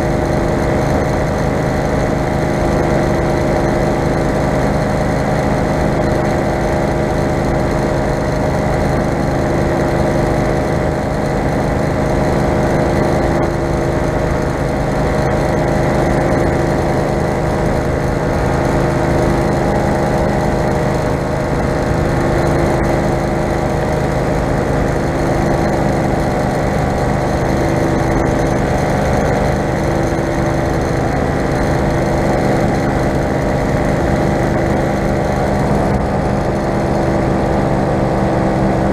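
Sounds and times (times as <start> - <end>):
paramotor engine running: 0.0 - 38.9.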